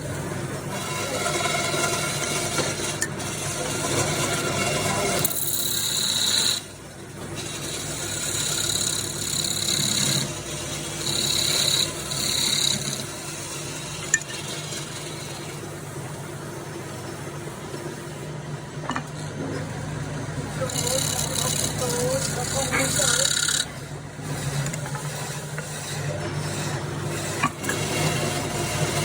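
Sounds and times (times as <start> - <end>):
tool scraping wood on lathe: 0.0 - 29.0.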